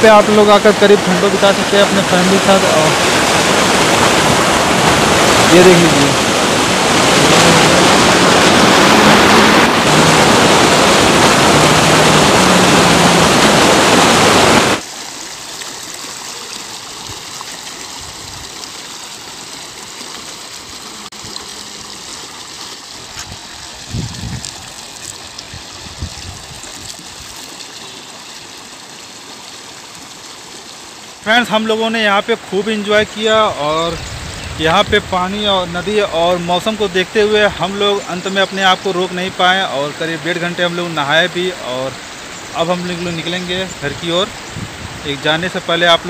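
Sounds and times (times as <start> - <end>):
river flowing over stones: 0.0 - 33.9, 34.6 - 46.0
waterfall rushing: 0.0 - 46.0.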